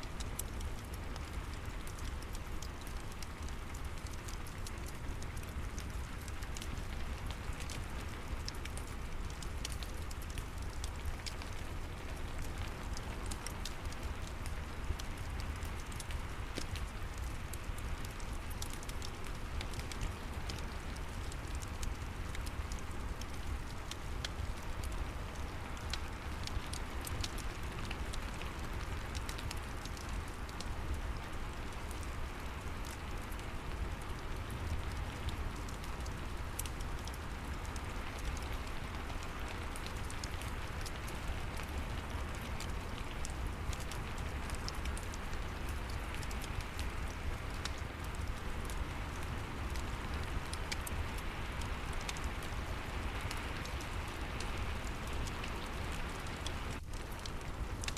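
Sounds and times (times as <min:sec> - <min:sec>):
steady rain: 0:00.0 - 0:57.9
wood fire crackling: 0:00.0 - 0:57.9.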